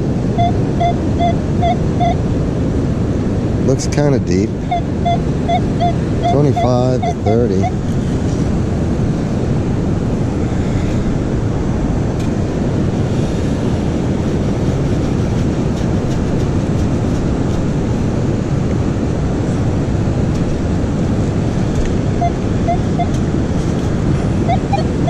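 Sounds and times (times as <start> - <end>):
ocean surf: 0.0 - 25.0
wind buffeting microphone: 0.0 - 25.0.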